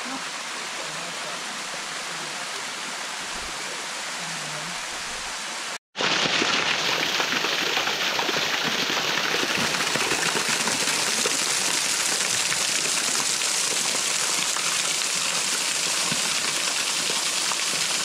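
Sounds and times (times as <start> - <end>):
small waterfall splashing: 0.0 - 18.0.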